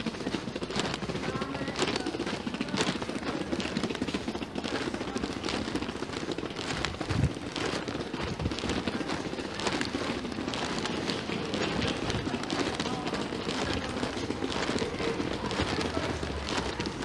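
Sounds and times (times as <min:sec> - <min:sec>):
crackly street background: 0:00.0 - 0:17.0
footsteps on pavement: 0:00.0 - 0:17.0.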